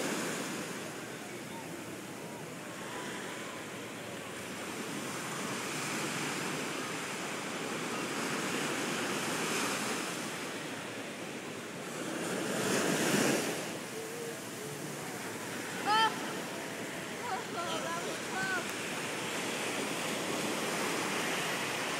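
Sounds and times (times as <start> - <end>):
waves breaking on beach: 0.0 - 21.9.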